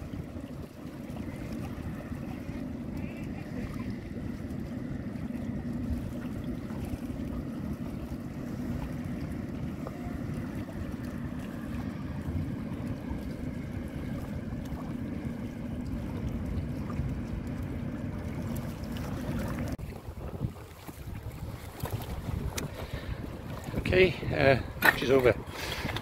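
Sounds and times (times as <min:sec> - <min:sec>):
choppy water: 0:00.0 - 0:26.0
wind buffeting microphone: 0:00.0 - 0:26.0.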